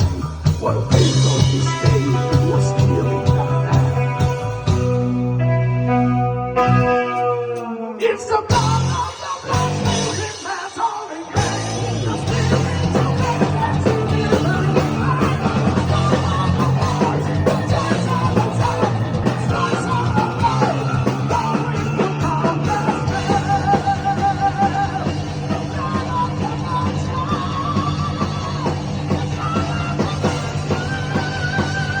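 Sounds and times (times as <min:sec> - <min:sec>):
loud singing vocal: 0:00.0 - 0:04.2, 0:07.9 - 0:32.0
heavy metal band playing: 0:00.0 - 0:32.0.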